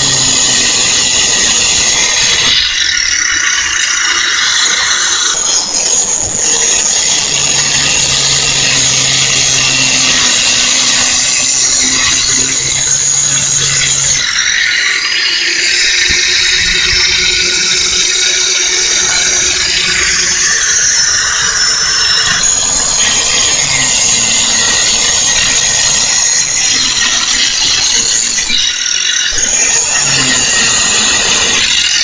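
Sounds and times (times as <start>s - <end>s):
angle grinder screeching: 0.0s - 32.0s.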